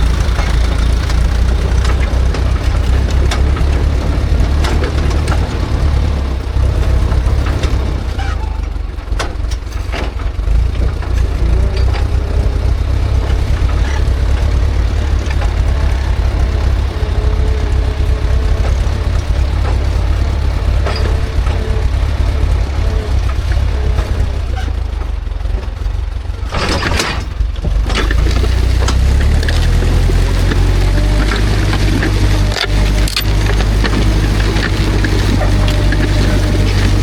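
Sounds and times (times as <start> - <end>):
disc harrow clanking: 0.0 - 37.0
tractor diesel engine running: 0.0 - 37.0.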